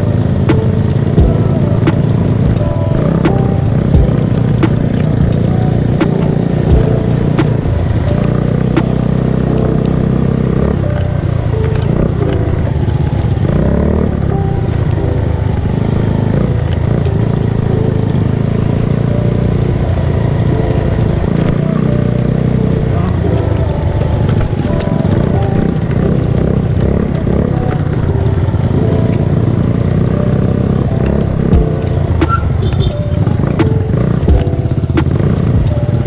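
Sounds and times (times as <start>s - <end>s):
music with slow beat: 0.0s - 36.0s
scooter engine running: 0.0s - 36.0s.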